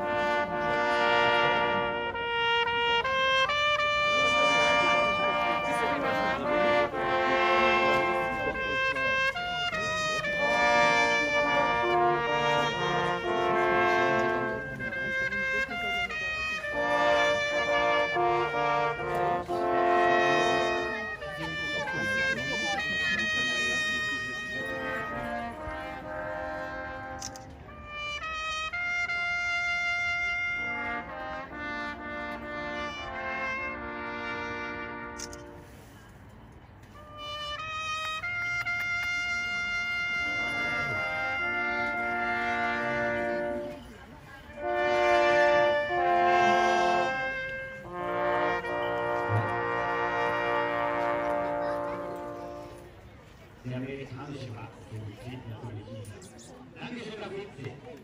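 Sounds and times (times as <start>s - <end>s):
brass horns playing in harmony: 0.0s - 36.2s, 36.8s - 53.1s.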